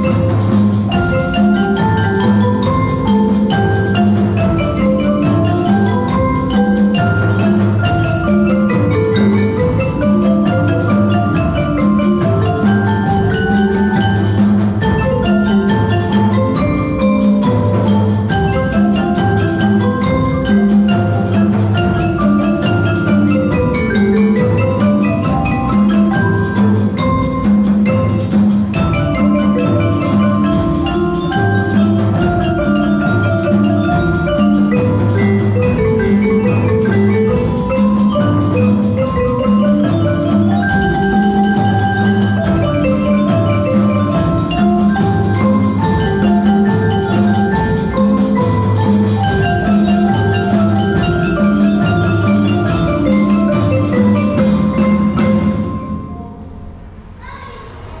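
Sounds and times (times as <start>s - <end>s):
marimba ensemble playing: 0.0s - 57.2s.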